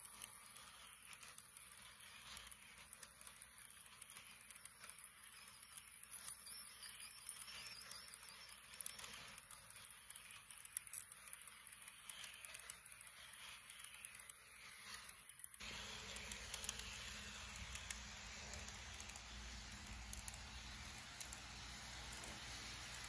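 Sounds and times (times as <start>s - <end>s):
model train wheels ticking: 0.0s - 23.0s.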